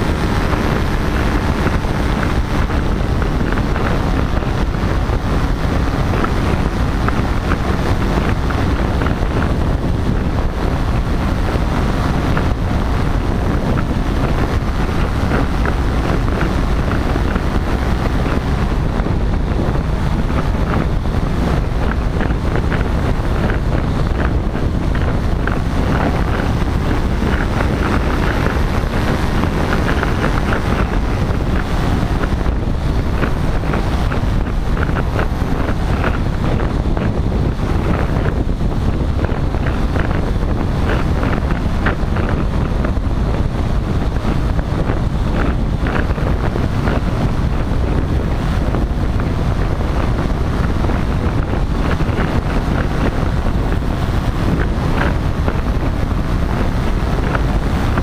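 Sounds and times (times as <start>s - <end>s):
paramotor engine running: 0.0s - 58.0s
wind buffeting microphone: 0.0s - 58.0s.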